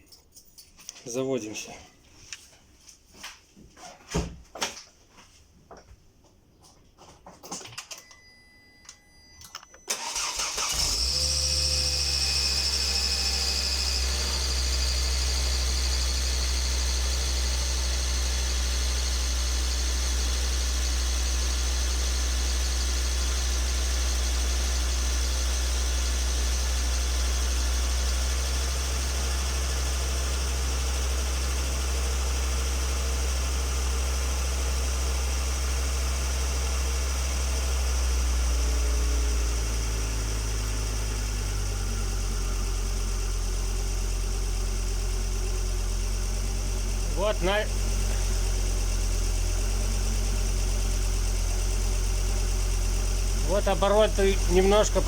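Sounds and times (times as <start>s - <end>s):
car engine starting and idling: 9.4s - 55.0s.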